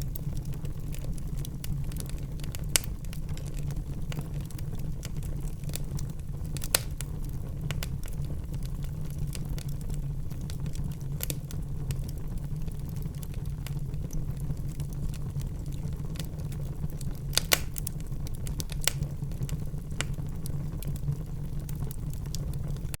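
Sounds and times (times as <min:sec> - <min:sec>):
low fire rumble: 0:00.0 - 0:23.0
wood fire crackling: 0:00.0 - 0:23.0.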